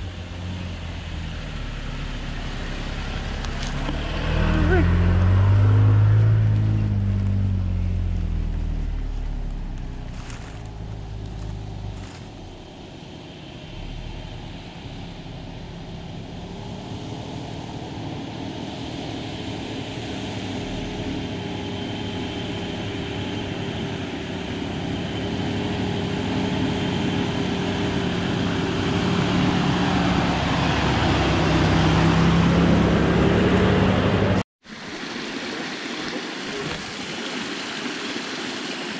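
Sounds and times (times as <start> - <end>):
jeep engine approaching: 0.0 - 34.4
pickup engine crawling past: 0.0 - 34.4.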